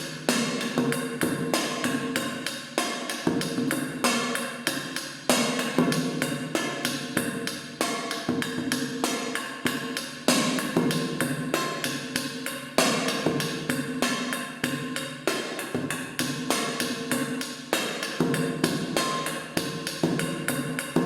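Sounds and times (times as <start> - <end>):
percussion beat on metal can: 0.0 - 21.0.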